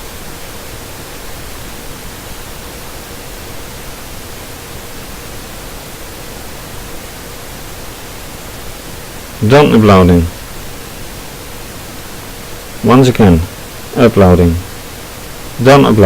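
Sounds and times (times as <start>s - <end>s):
faint steady tone: 0.0s - 16.0s
steady hiss: 0.0s - 16.0s.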